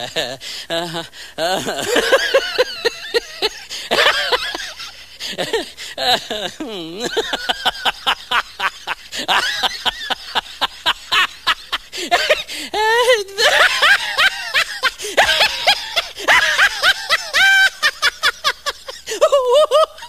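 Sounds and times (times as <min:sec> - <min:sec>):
person cackling laughter: 0:00.0 - 0:20.0.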